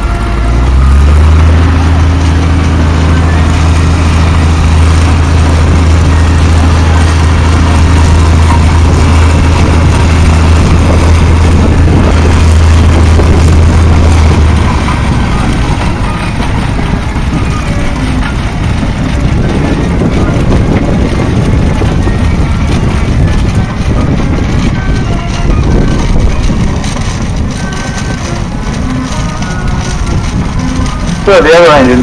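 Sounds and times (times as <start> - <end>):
diesel engine deep hum: 0.0 - 32.0.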